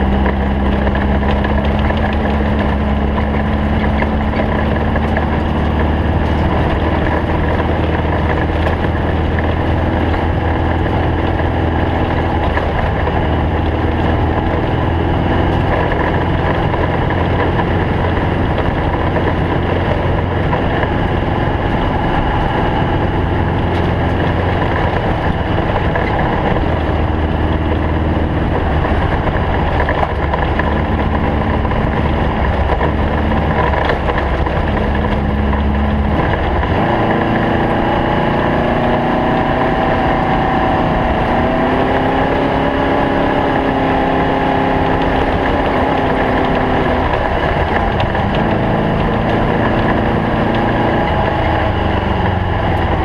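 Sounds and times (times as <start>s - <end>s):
car engine running: 0.0s - 53.0s
road and rattle noise: 0.0s - 53.0s.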